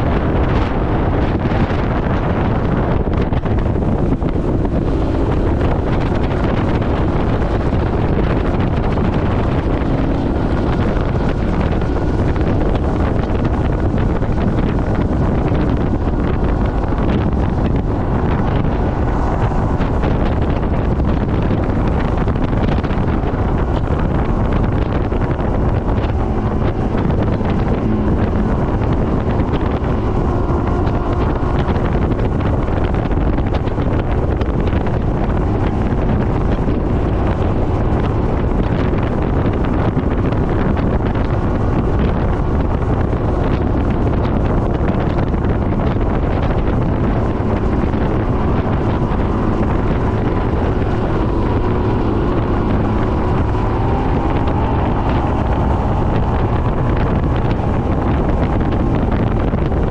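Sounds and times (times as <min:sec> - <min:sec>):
outboard motor drone: 0:00.0 - 0:59.9
rushing water: 0:00.0 - 0:59.9
wind buffeting microphone: 0:00.0 - 0:59.9.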